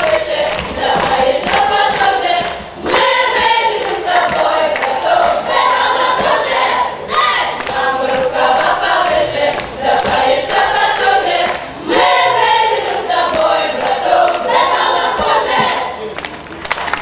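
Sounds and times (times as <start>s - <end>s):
folk choir of children and women: 0.0s - 16.2s.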